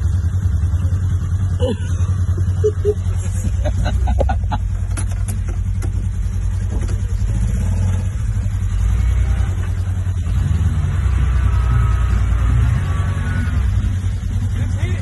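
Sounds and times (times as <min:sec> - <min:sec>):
truck engine rumble: 0:00.0 - 0:15.0.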